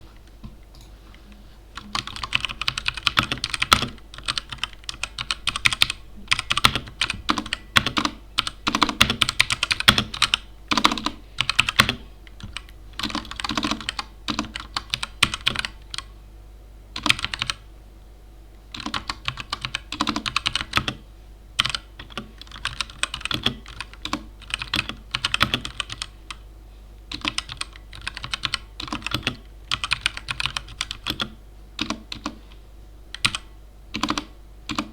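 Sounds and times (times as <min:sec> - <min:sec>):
mechanical keyboard typing: 0:01.8 - 0:16.1, 0:17.0 - 0:17.6, 0:18.7 - 0:21.0, 0:21.6 - 0:26.4, 0:27.1 - 0:32.4, 0:33.1 - 0:34.9.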